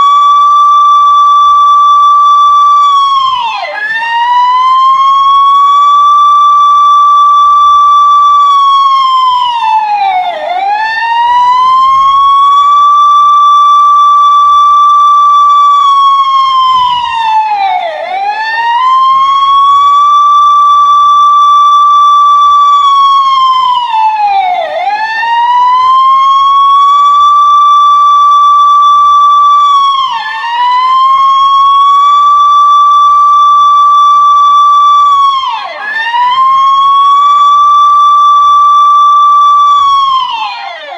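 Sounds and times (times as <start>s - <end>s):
police siren wailing: 0.0s - 40.9s.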